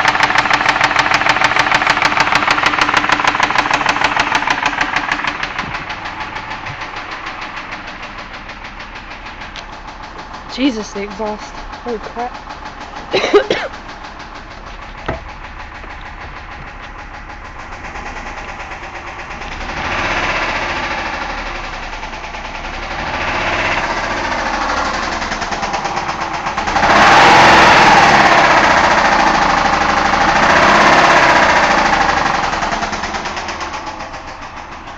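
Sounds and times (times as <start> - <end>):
knocking car engine revving: 0.0 - 34.9.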